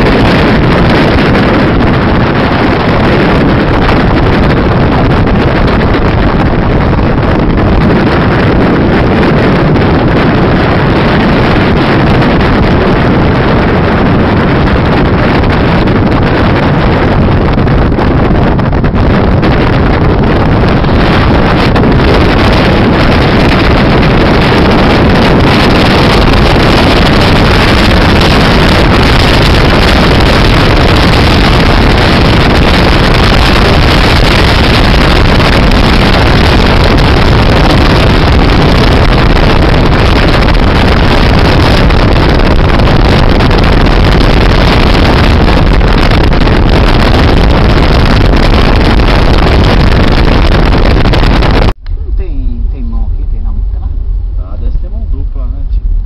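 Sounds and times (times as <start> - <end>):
car wind and road noise: 0.0 - 56.0.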